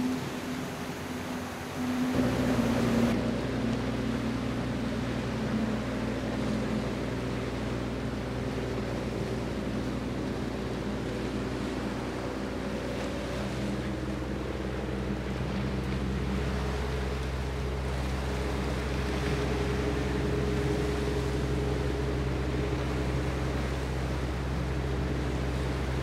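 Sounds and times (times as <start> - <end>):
rush of wind and water: 0.0 - 26.0
ship engine droning: 0.0 - 26.0.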